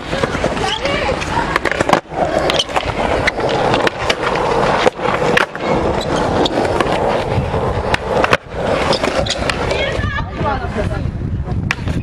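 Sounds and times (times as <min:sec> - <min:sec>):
skateboard clacking on ground: 0:00.0 - 0:10.4, 0:11.5 - 0:12.0
skateboard wheels rolling on concrete: 0:00.0 - 0:12.0.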